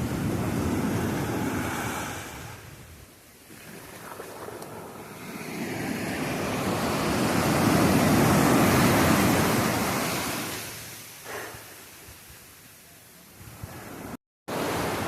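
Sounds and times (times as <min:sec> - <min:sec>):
ocean wave rushing in: 0:00.0 - 0:12.0, 0:13.5 - 0:15.0.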